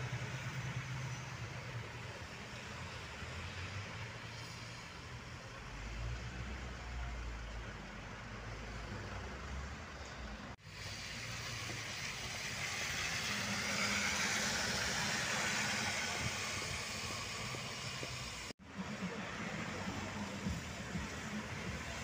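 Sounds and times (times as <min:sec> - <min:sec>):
bus engine: 0:00.0 - 0:22.0
tyre hiss on wet road: 0:00.2 - 0:06.6, 0:10.6 - 0:22.0.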